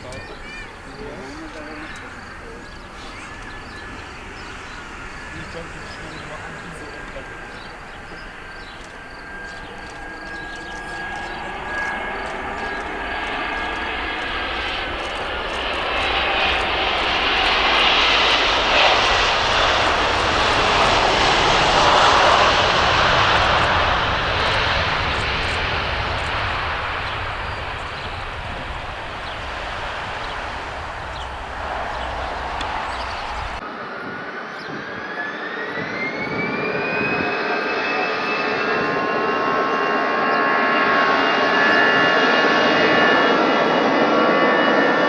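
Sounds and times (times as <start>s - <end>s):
airliner engine noise: 0.0s - 45.0s.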